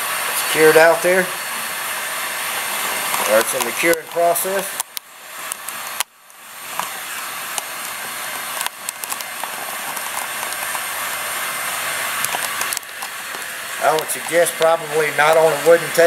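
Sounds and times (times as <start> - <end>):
heat gun hissing: 0.0 - 16.0.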